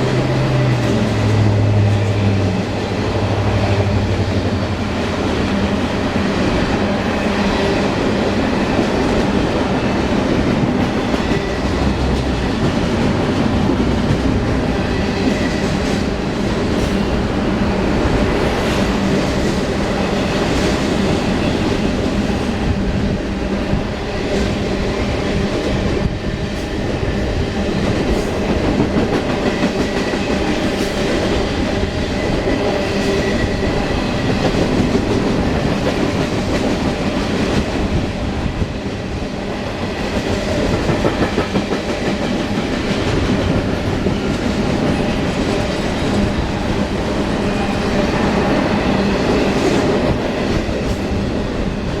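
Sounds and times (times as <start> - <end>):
railroad cars rolling past: 0.0 - 52.0.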